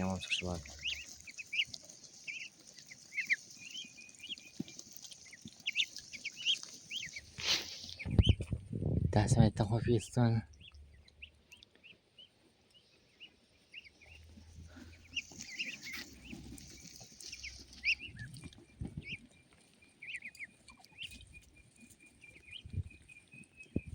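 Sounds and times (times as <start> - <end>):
ducklings peeping: 0.0 - 23.9.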